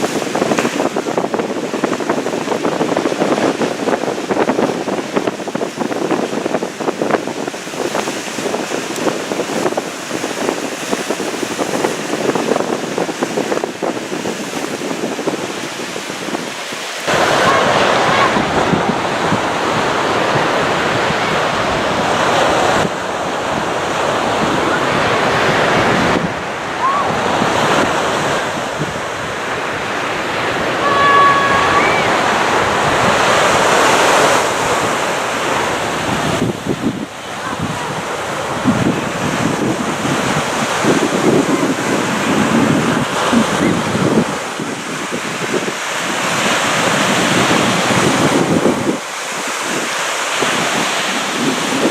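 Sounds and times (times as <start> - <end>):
surf washing on a beach: 0.0 - 51.9
wind buffeting microphone: 0.0 - 51.9.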